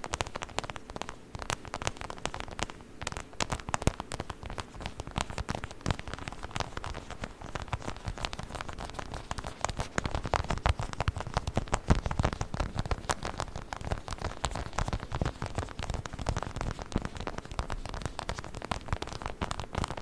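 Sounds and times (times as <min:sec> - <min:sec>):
quick taps and scratches on microphone: 0:00.0 - 0:20.0.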